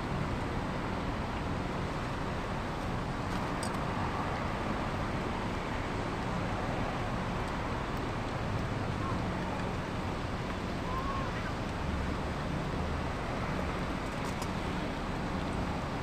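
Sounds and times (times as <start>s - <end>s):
constant low rumble: 0.0s - 16.0s.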